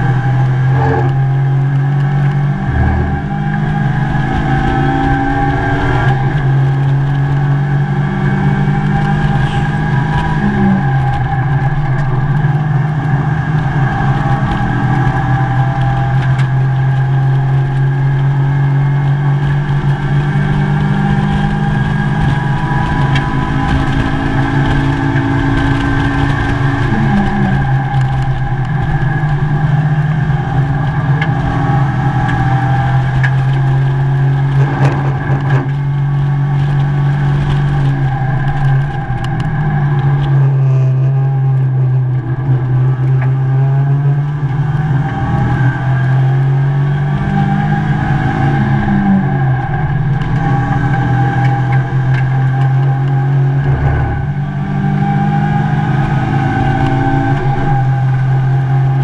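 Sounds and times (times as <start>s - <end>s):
race car engine drone: 0.0s - 59.0s
road and wind noise: 0.0s - 59.0s.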